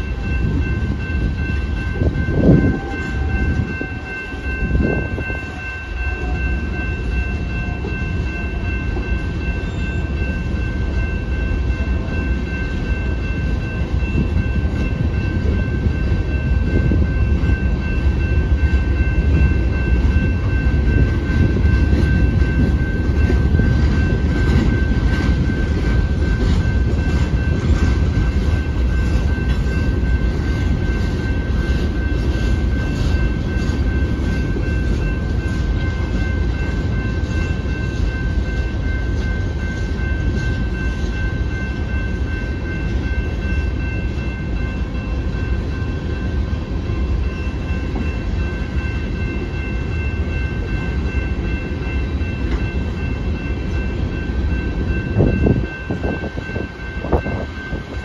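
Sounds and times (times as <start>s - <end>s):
high ringing tone: 0.0s - 58.0s
train wheels rumbling on rail: 0.0s - 58.0s.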